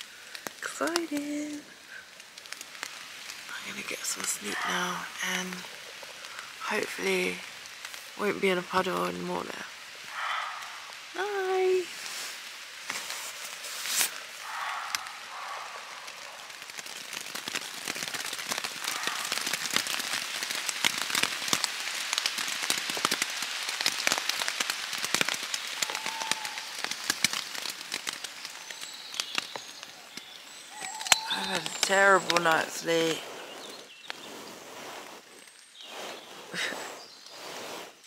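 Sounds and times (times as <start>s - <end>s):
rain on tent fabric: 0.0s - 38.0s.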